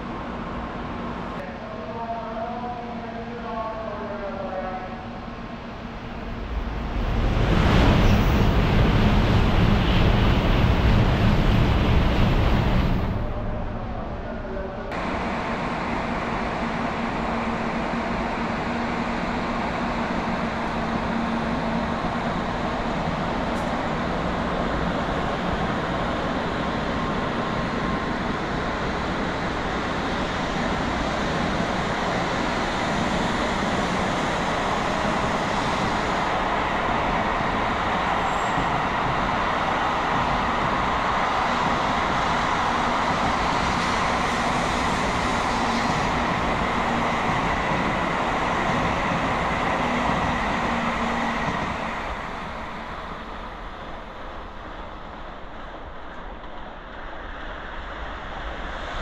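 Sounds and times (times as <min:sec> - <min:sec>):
high-speed train passing: 0:00.0 - 0:59.0.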